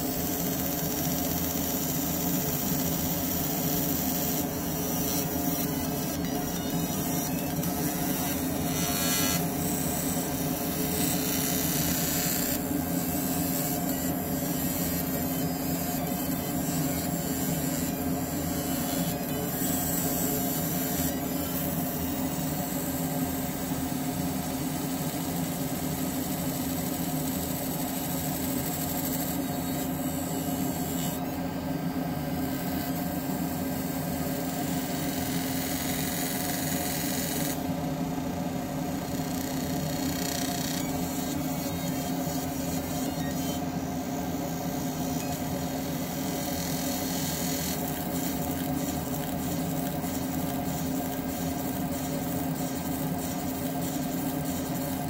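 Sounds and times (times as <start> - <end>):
laser buzzing on metal: 0.0 - 55.0.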